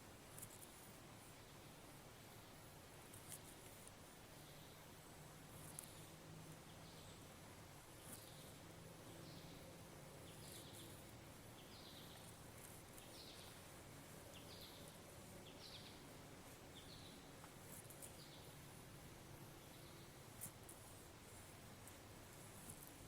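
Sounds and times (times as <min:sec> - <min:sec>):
faint bird chirping: 0:00.0 - 0:23.0.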